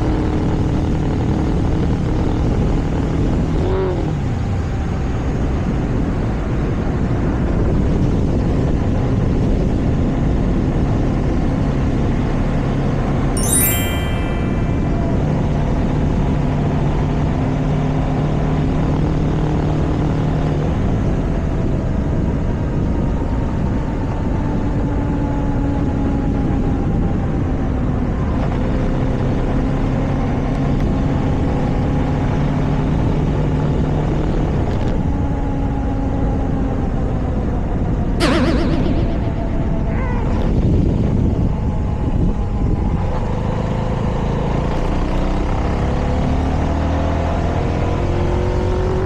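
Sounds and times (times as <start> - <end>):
wind and road noise: 0.0 - 38.2, 38.9 - 49.0.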